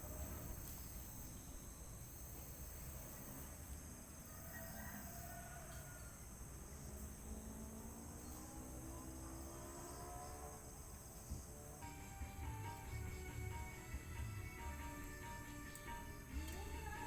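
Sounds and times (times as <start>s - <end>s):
faint gliding drawn-out tones: 0.0s - 17.0s
insect chorus trilling: 0.0s - 17.0s.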